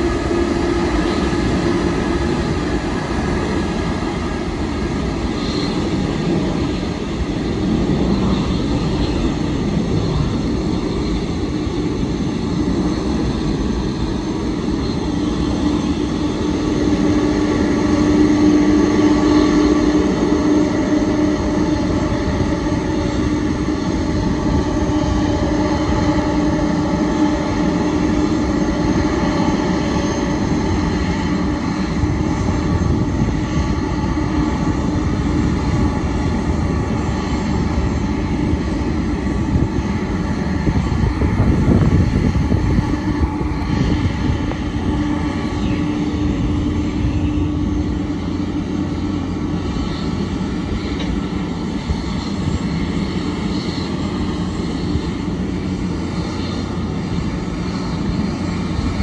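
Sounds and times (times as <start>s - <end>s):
jet engines rumbling with whine: 0.0s - 59.0s.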